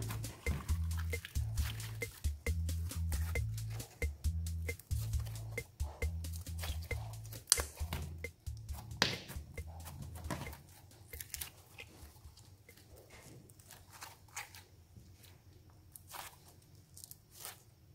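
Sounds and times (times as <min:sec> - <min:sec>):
slime squishing: 0:00.0 - 0:02.2, 0:04.9 - 0:15.3, 0:15.9 - 0:17.7.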